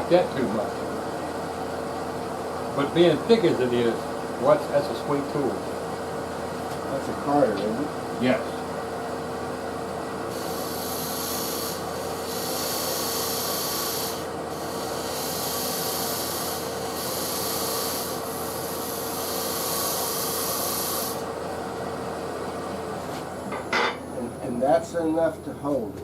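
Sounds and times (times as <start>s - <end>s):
lathe motor hum: 0.0s - 26.0s.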